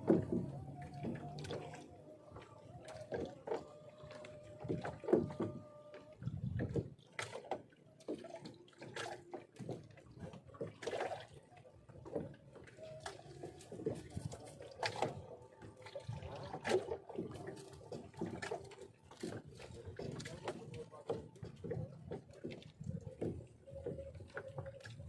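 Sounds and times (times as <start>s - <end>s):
knocks and clatter on boat: 0.0s - 25.0s
water splashing and dripping: 0.0s - 25.0s.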